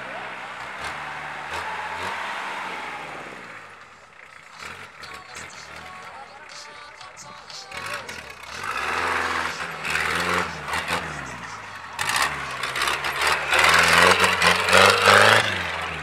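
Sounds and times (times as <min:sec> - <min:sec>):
jeep engine revving hard: 0:00.0 - 0:06.0, 0:07.6 - 0:16.0.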